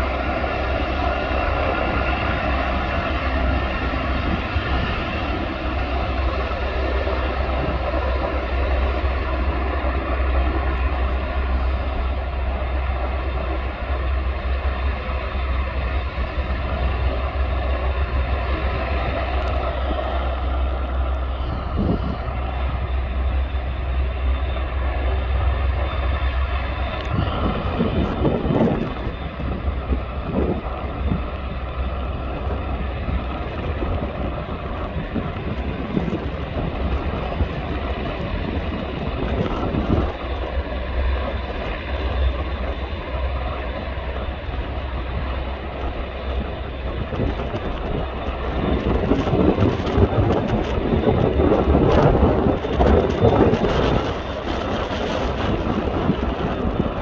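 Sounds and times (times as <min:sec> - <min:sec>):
helicopter engines whining: 0:00.0 - 0:57.0
low rumble: 0:00.0 - 0:57.0.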